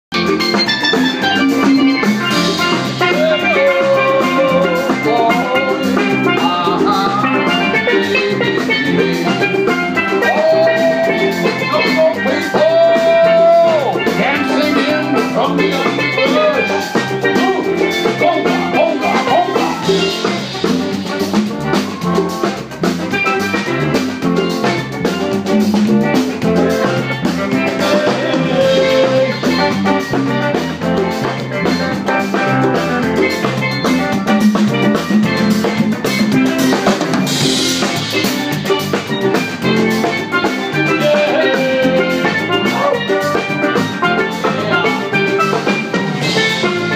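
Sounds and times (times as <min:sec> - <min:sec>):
live band playing: 0:00.0 - 0:46.9
steel pan melody: 0:00.1 - 0:46.9.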